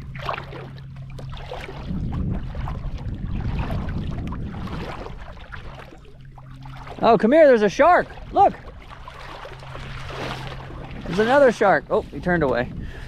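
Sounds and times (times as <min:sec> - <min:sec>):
water sloshing and splashing: 0:00.0 - 0:13.0
wind rumbling on microphone: 0:00.0 - 0:13.0.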